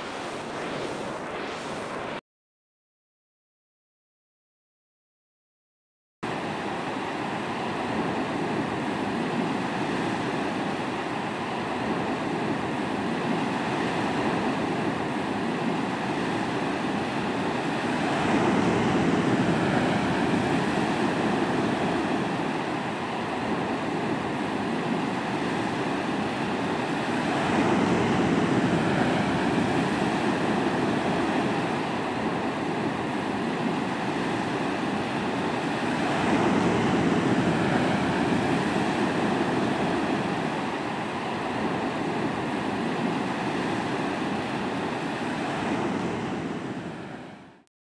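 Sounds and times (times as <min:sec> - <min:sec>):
ocean waves breaking on beach: 0:00.0 - 0:02.2, 0:06.3 - 0:47.6.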